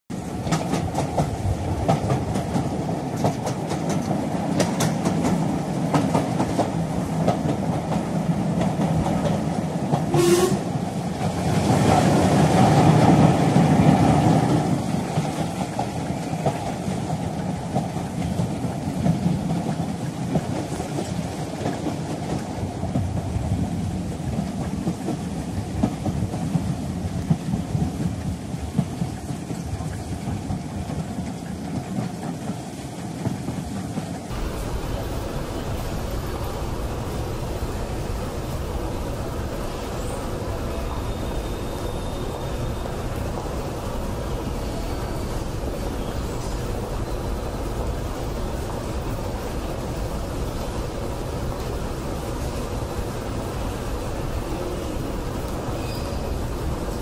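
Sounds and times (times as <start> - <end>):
steam train running on rails: 0.1 - 57.0.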